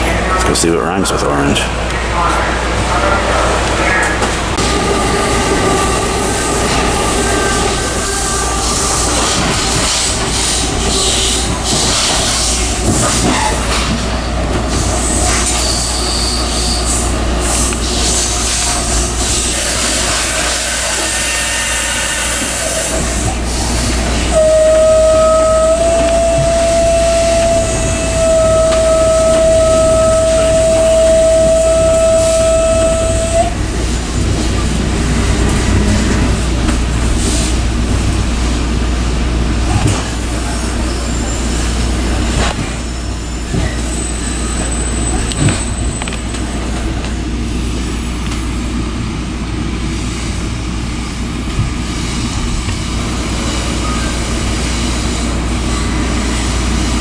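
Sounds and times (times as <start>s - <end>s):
train car rumble: 0.0s - 57.0s.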